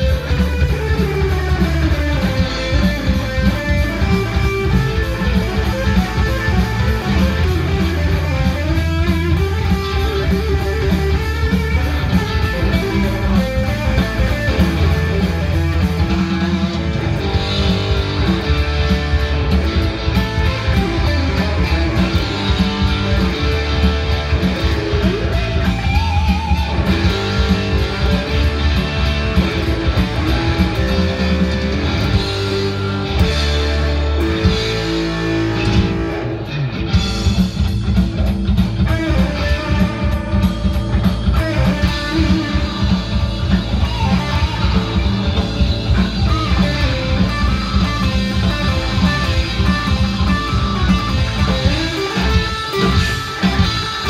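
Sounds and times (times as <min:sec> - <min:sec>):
low bass line: 0:00.0 - 0:54.0
rock electric guitar: 0:00.0 - 0:54.0.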